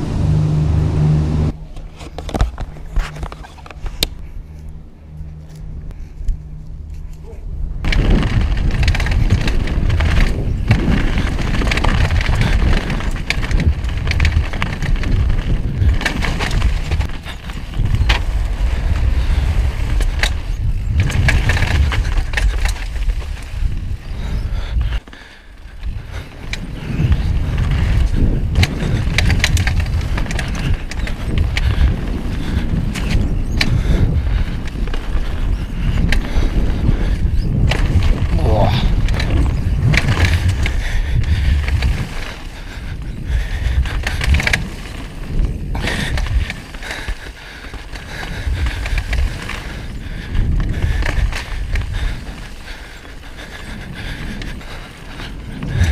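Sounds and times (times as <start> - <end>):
wind rumbling on microphone: 0.0 - 55.9
bike chain and suspension rattling: 1.5 - 55.9
bike tyres crunching over stones: 5.4 - 55.9.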